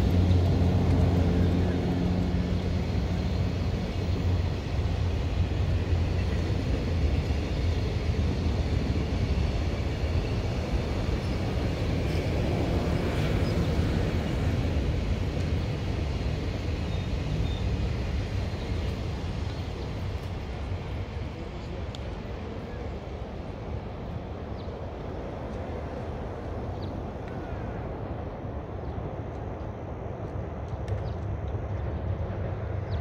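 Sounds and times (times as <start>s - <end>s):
locomotive hum: 0.0s - 33.0s
train wagons rumbling on rails: 0.0s - 33.0s.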